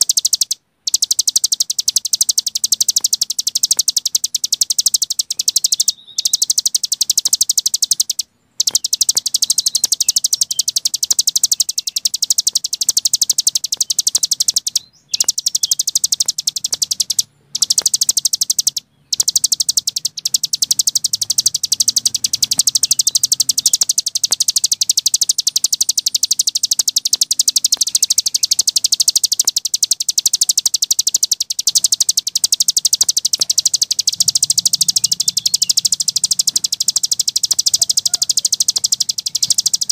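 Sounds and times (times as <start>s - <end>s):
songbird fast high trill: 0.0s - 39.9s.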